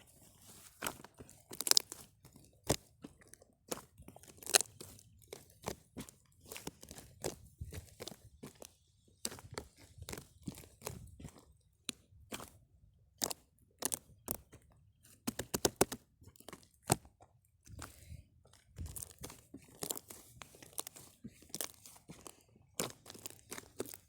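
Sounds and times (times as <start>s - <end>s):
crunching and crackling clicks: 0.5s - 12.6s, 13.2s - 24.0s.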